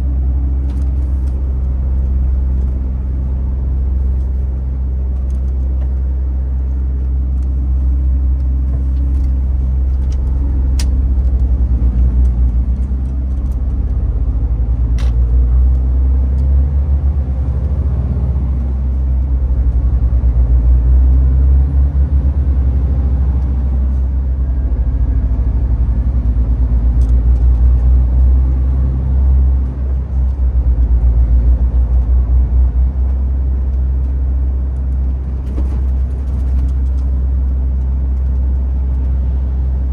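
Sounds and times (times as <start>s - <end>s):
truck diesel engine rumbling: 0.0s - 39.9s.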